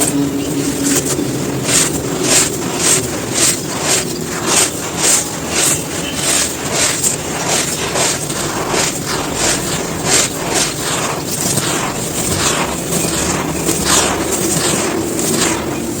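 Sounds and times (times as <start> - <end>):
dry sand crunching: 0.0 - 16.0
gritty hiss of falling grains: 0.0 - 16.0.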